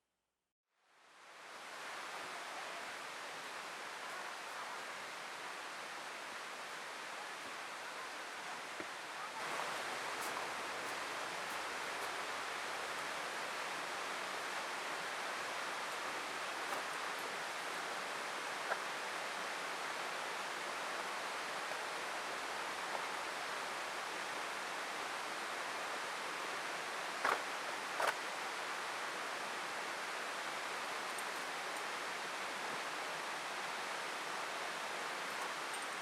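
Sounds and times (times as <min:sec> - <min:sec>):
river water rushing: 0:01.1 - 0:36.0.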